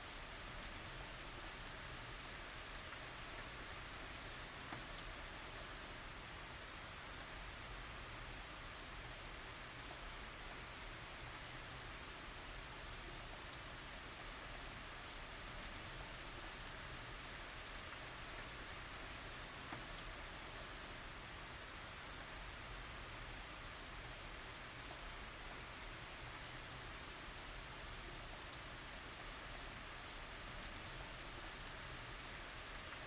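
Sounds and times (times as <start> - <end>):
gentle rain falling: 0.0 - 33.0.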